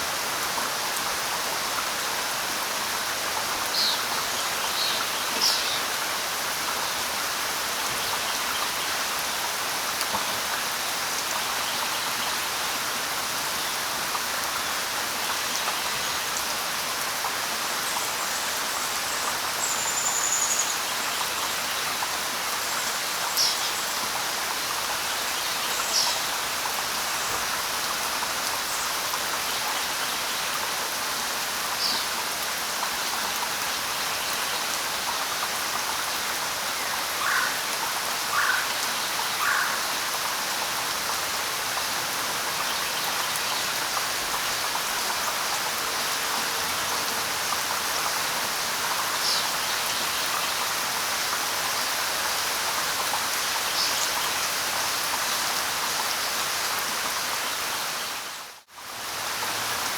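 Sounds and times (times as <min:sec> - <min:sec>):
light rain on leaves: 0:00.0 - 0:59.9.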